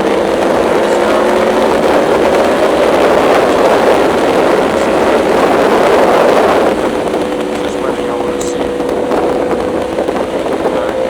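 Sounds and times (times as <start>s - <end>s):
motorcycle engine droning: 0.0s - 11.0s
wind rush on microphone: 0.0s - 11.0s.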